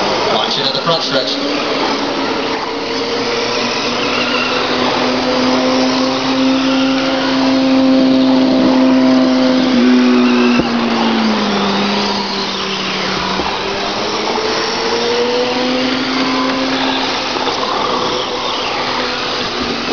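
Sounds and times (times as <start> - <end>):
rc trucks motors whining: 0.0 - 19.9.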